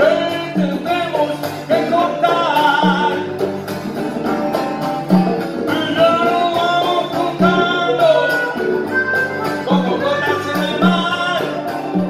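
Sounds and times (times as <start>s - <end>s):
man singing: 0.0s - 3.4s, 5.6s - 12.0s
congas and bongos: 0.0s - 12.0s
strummed acoustic guitar: 0.0s - 12.0s.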